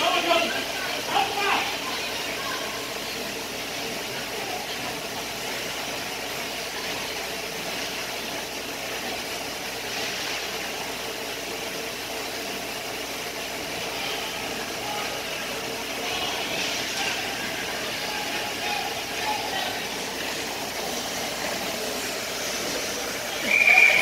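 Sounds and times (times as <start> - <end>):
ice rink hum and hiss: 0.0 - 24.0.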